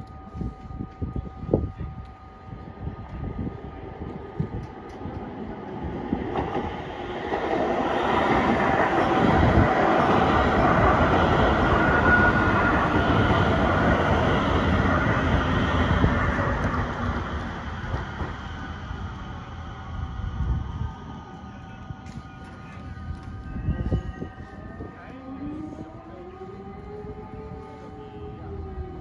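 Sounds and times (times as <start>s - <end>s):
metro train rumbling past: 0.0s - 29.0s.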